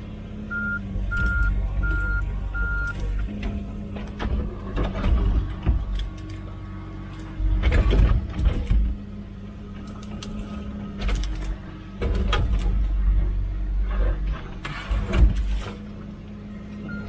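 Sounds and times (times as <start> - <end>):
mini excavator diesel engine: 0.0 - 17.0.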